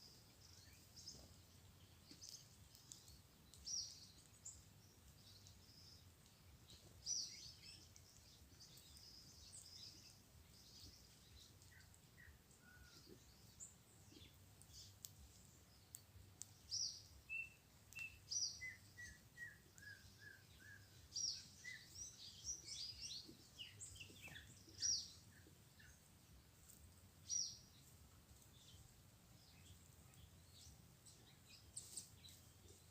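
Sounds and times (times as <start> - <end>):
small songbirds chirping: 0.0 - 32.9.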